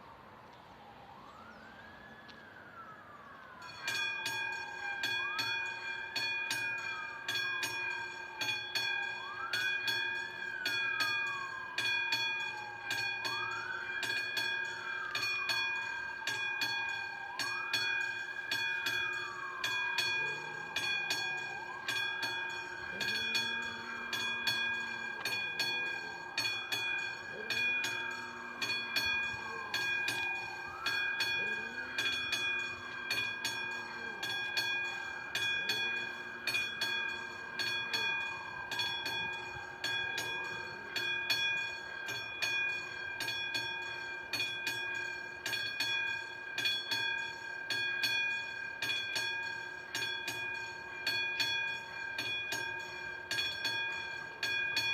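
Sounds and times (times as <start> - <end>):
level crossing bell ringing: 3.5 - 54.9.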